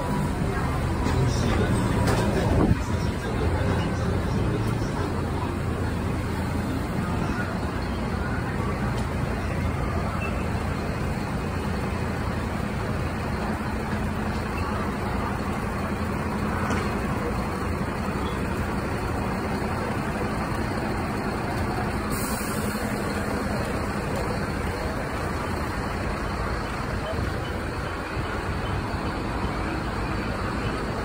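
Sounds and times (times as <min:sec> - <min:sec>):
fire truck engines running: 0:00.0 - 0:31.0
street traffic: 0:00.0 - 0:31.0.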